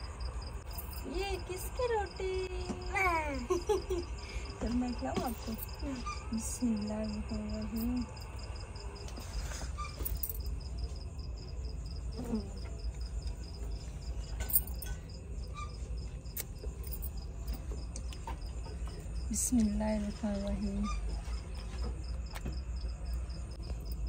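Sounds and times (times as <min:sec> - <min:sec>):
cricket chirping: 0:00.0 - 0:24.0
steady low hum: 0:00.0 - 0:24.0.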